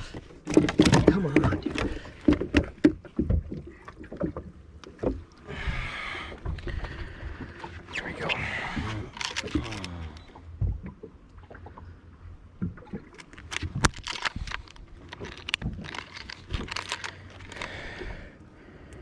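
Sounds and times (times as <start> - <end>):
clicks and knocks in a boat: 0.0 - 18.2.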